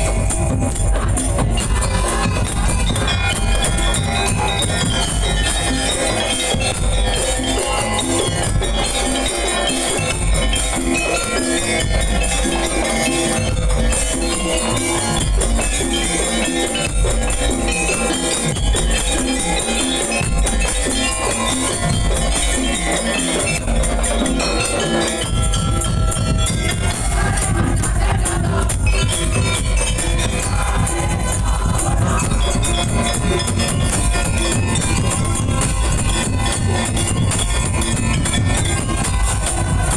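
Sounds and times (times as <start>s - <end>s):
heavy bass drum beat: 0.0s - 39.9s
percussion ensemble playing: 0.0s - 39.9s
tuned percussion melody: 0.0s - 39.9s.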